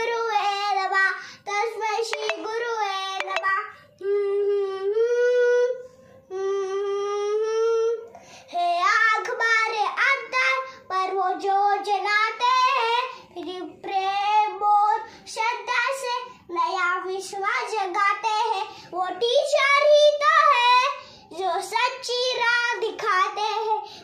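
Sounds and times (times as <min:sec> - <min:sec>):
boy singing unaccompanied: 0:00.0 - 0:23.9.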